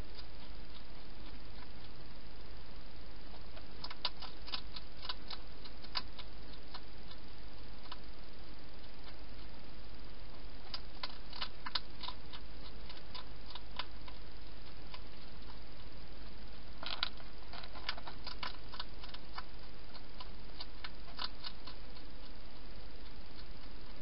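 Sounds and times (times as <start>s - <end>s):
hedgehog eating clicks and crunches: 0.0s - 2.0s, 3.3s - 9.6s, 10.3s - 24.0s
steady hiss: 0.0s - 24.0s.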